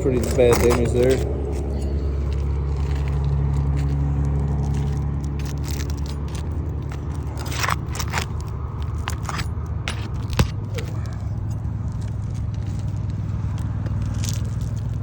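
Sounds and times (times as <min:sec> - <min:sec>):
roof shingles crackling and scraping: 0:00.0 - 0:15.0
steady low hum: 0:00.0 - 0:15.0.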